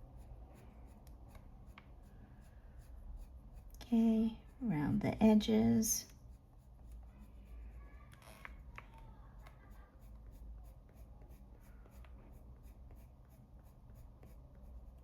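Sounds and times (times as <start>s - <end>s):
coloured pencil scratching on paper: 0.0s - 15.0s.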